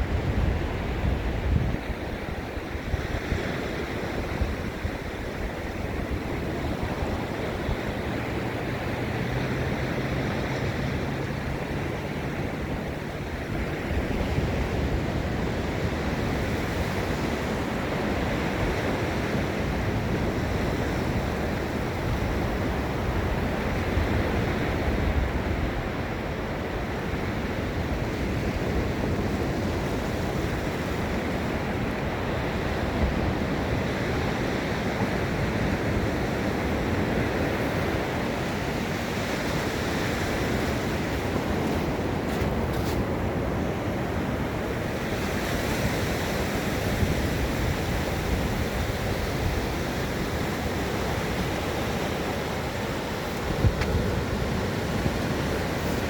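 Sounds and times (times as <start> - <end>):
wind rumbling on microphone: 0.0 - 56.0
ocean surf breaking: 1.9 - 56.0.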